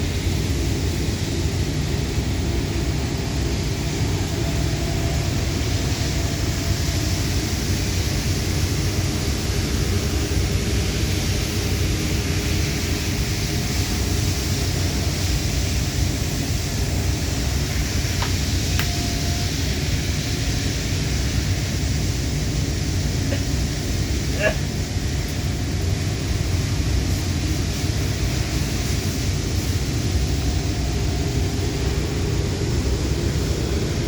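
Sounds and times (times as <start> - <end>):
faint whine: 0.0 - 34.0
welding hiss: 0.0 - 34.0.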